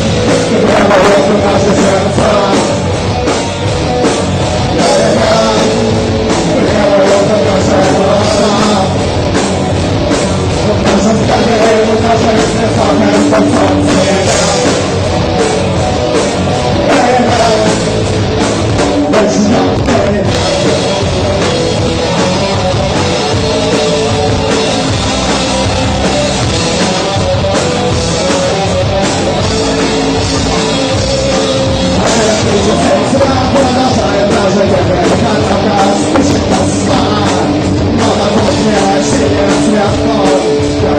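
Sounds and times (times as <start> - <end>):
drum kit: 0.0 - 40.9
rock band playing live: 0.0 - 40.9.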